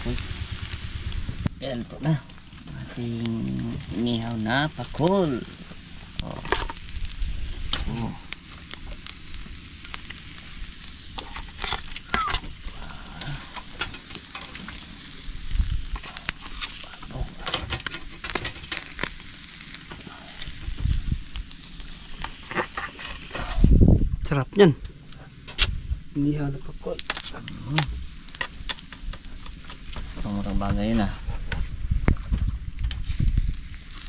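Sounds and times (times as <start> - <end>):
fish sizzling over charcoal: 0.0 - 34.0.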